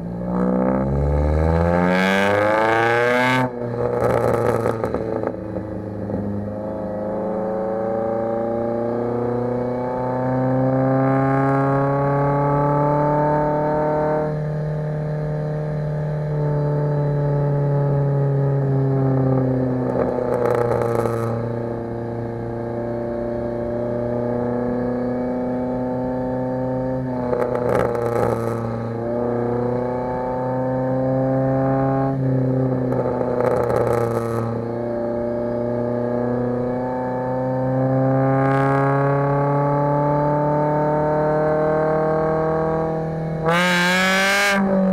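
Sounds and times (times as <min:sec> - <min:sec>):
car engine exhaust note: 0:00.0 - 0:44.9.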